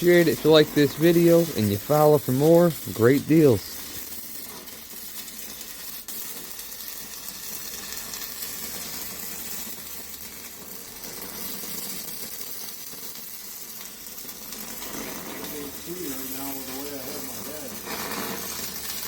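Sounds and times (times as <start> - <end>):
welding arc crackling sizzle: 0.0 - 19.0.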